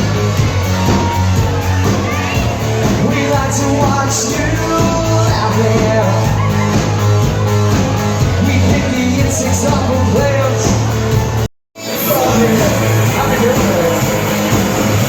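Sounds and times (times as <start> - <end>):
rock song with singing and guitar: 0.0 - 15.0.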